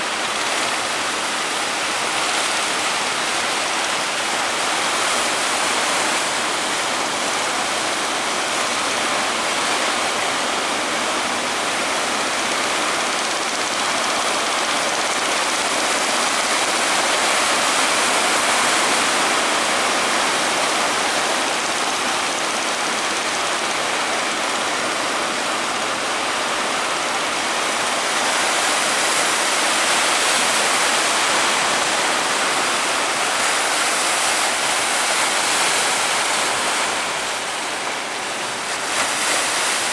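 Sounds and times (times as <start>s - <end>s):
sea surf breaking: 0.0s - 39.9s.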